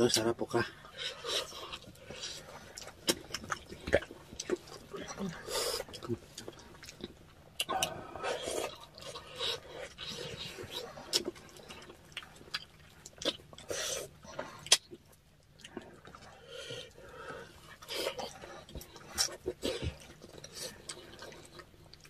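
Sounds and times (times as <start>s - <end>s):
chewing and slurping: 0.5s - 22.0s.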